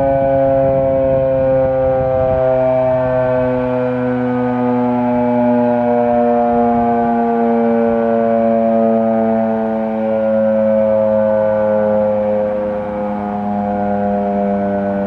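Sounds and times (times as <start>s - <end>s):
civil defense siren wailing: 0.0s - 15.0s
other siren tones: 0.0s - 15.0s.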